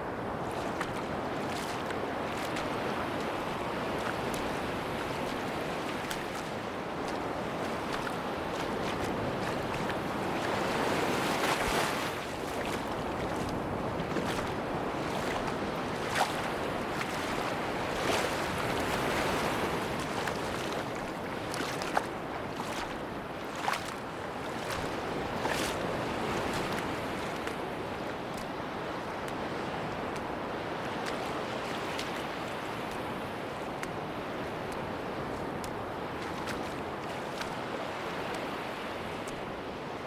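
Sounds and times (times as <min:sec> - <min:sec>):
ocean waves washing on beach: 0:00.0 - 0:40.0.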